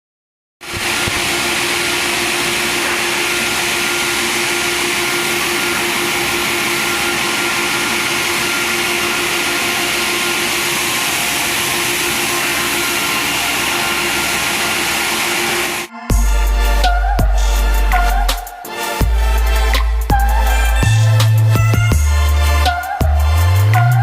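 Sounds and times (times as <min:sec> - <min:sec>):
sawmill machinery drone: 0:00.6 - 0:24.0.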